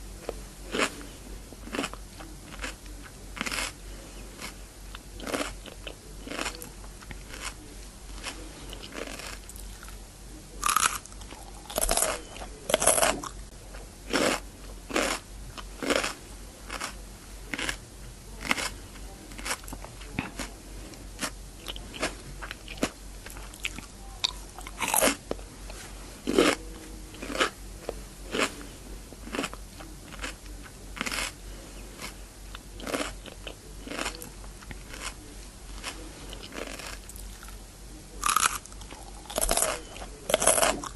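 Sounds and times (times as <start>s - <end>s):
chewing crunchy cucumber: 0.0s - 40.9s.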